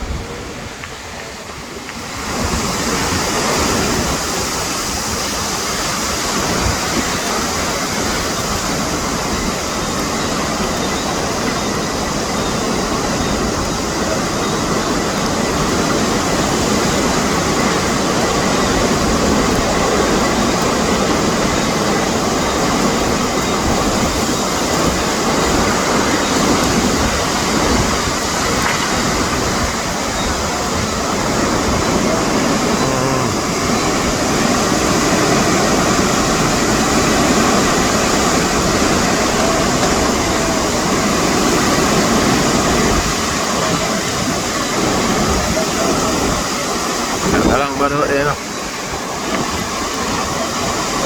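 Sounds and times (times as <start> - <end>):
strong wind rushing: 0.0 - 51.0.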